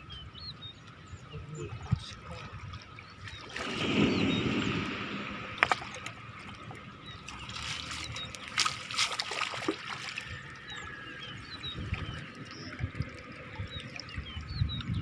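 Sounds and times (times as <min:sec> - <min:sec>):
river water trickling: 0:00.0 - 0:15.0
sharp water splashes: 0:02.2 - 0:15.0.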